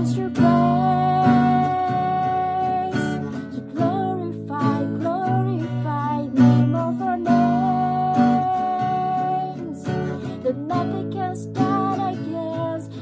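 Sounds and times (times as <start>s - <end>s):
acoustic guitar strummed: 0.0s - 13.0s
woman singing: 0.0s - 13.0s.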